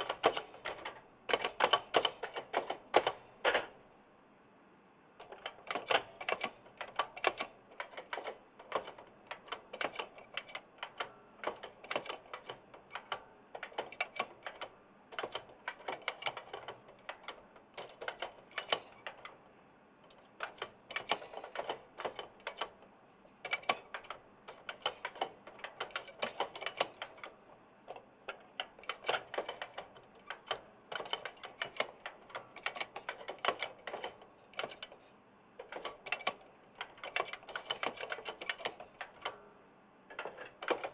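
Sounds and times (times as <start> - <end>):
clicky keyboard typing: 0.0 - 3.7, 5.2 - 19.4, 20.0 - 22.8, 23.4 - 35.0, 35.6 - 39.4, 40.1 - 40.9.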